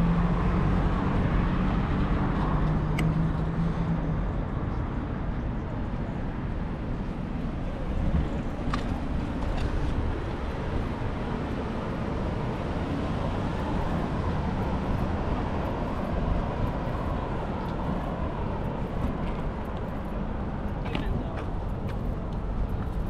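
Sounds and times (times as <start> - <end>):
road and traffic noise: 0.0 - 23.0
wind rumble on microphone: 0.0 - 23.0.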